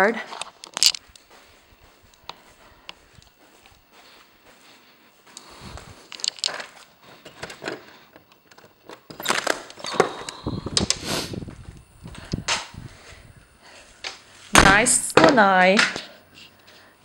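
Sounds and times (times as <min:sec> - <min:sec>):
footsteps: 0:00.0 - 0:08.3, 0:09.5 - 0:16.9.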